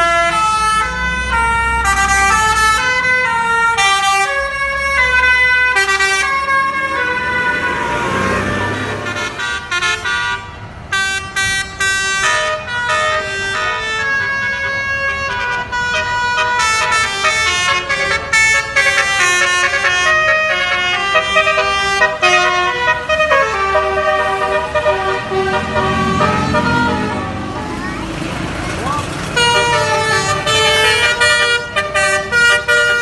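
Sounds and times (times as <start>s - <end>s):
multi-tone bus horn melodies: 0.0s - 28.0s, 29.3s - 33.0s.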